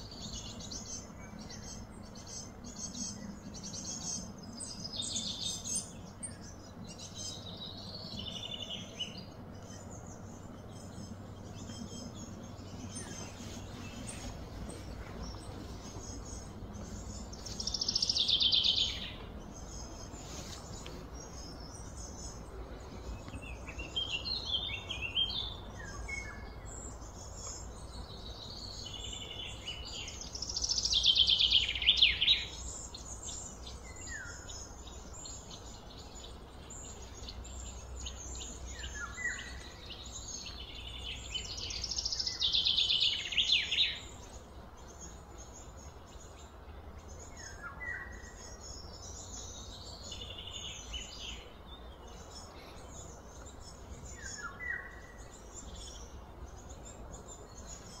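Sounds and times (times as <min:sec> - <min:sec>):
birds singing trilled phrases: 0:00.0 - 0:58.0
low background hum: 0:00.0 - 0:58.0.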